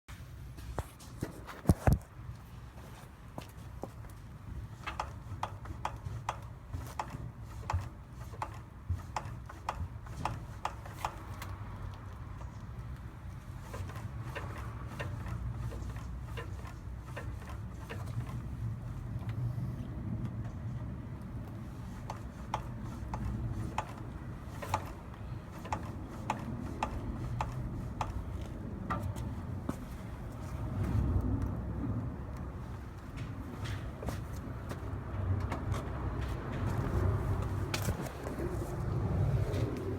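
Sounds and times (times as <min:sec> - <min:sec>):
suspension fork clunking: 0:03.4 - 0:19.4, 0:20.2 - 0:31.5, 0:32.4 - 0:39.9.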